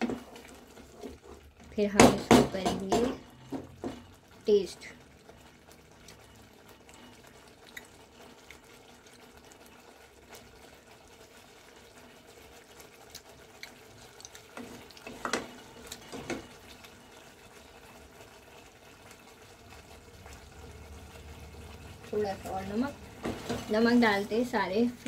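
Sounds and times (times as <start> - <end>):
sauce bubbling in a pot: 0.0 - 25.0.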